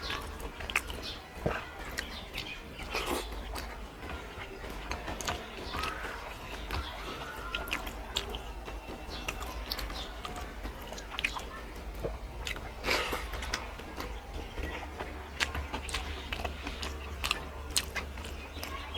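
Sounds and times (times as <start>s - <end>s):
person chewing with wet mouth smacks: 0.0s - 18.9s.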